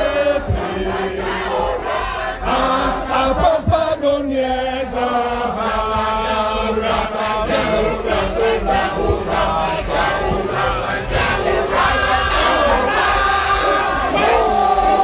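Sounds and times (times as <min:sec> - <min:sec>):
group singing an anthem: 0:00.0 - 0:15.0.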